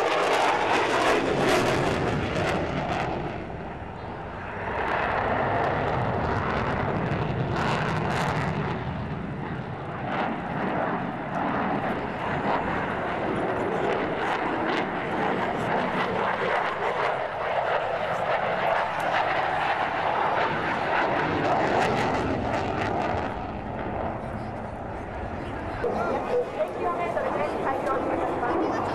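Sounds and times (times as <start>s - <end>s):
fighter jet engine roar: 0.0s - 28.9s.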